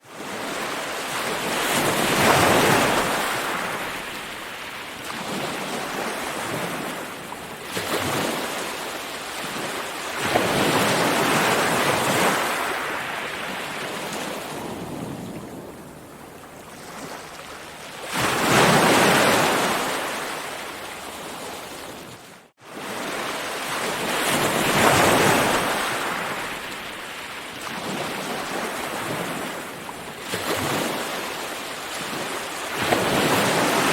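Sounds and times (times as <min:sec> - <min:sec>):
ocean waves breaking: 0:00.0 - 0:33.9.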